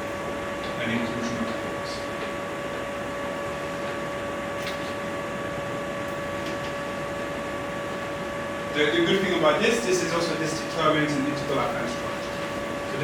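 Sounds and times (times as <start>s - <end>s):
steady hiss with high hum: 0.0s - 13.0s.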